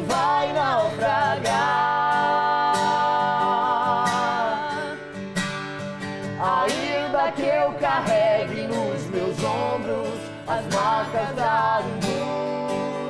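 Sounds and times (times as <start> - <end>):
woman singing with vibrato: 0.0 - 5.1, 6.4 - 13.0
acoustic guitar: 0.0 - 13.0.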